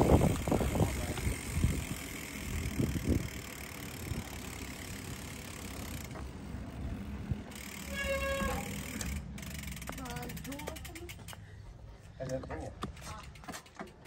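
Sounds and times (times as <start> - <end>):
bicycle freewheel ticking: 0.0 - 11.6.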